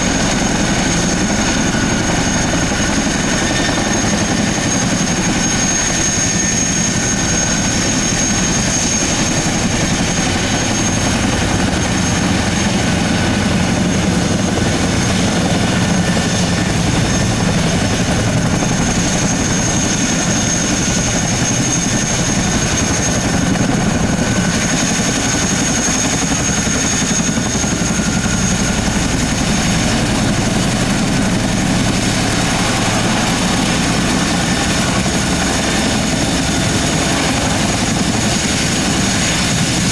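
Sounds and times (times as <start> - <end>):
helicopter rotor chop: 0.0 - 39.9
high-pitched engine whine: 0.0 - 39.9.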